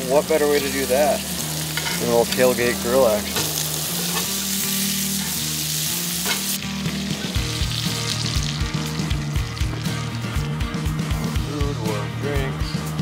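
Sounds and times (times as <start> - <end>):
meat sizzling in a pan: 0.0 - 11.9
background music with bass line: 0.0 - 13.0.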